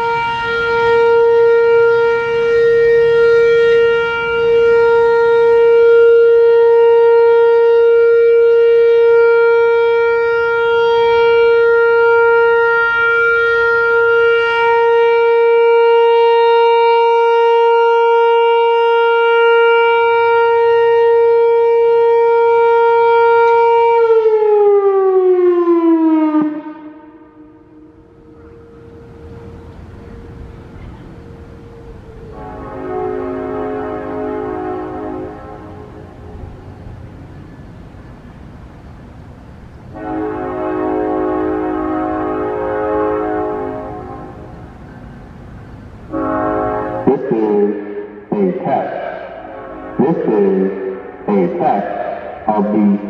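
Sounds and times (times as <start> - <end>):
warning siren steady tone: 0.0 - 38.5, 39.8 - 53.0.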